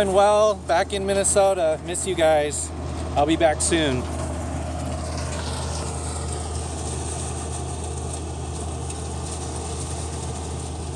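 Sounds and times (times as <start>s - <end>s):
machinery engine droning: 0.0s - 10.9s.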